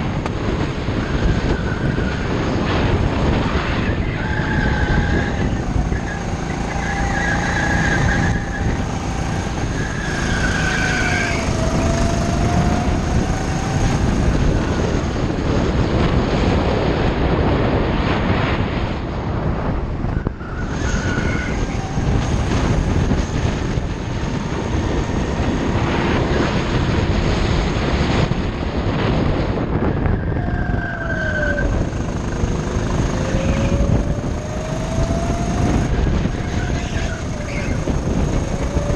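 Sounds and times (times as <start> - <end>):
go-kart engine running hard: 0.0 - 38.9
wind rushing: 0.0 - 38.9.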